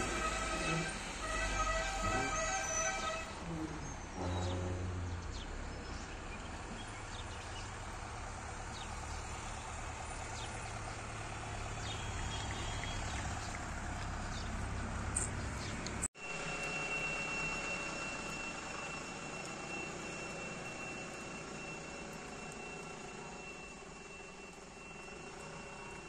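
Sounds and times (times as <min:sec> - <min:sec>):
outdoor background rumble: 0:00.0 - 0:26.0.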